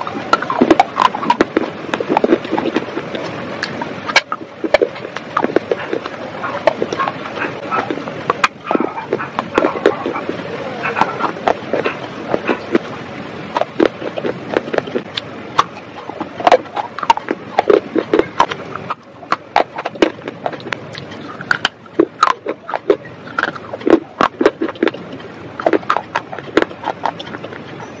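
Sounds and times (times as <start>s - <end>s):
chewing crunchy clay: 0.0s - 28.0s.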